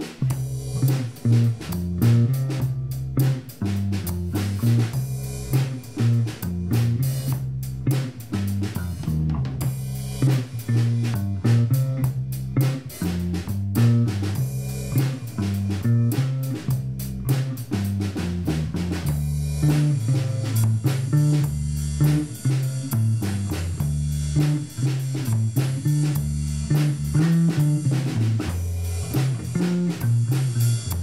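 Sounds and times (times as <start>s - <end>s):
upbeat band music: 0.0s - 31.0s.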